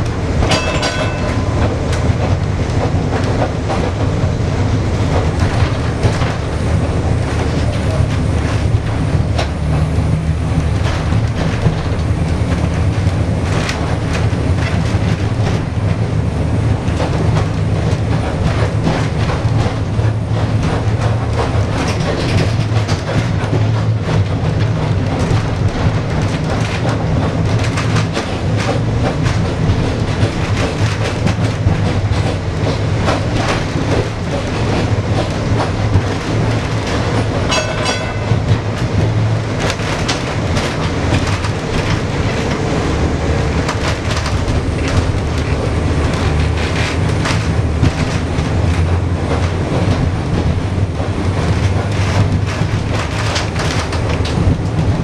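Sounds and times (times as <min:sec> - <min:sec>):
tram running gear hum: 0:00.0 - 0:55.0
wheels clicking over rails: 0:00.0 - 0:55.0.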